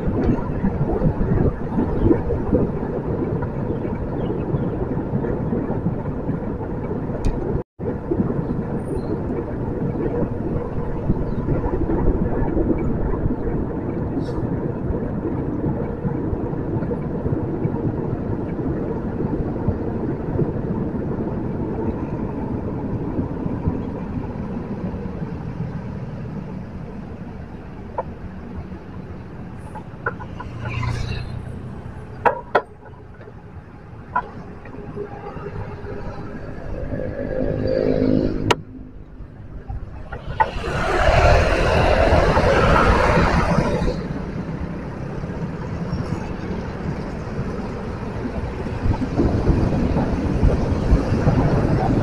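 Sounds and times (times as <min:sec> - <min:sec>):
bicycle tyre and road noise: 0:00.0 - 0:52.0
wind rushing over microphone: 0:00.0 - 0:52.0.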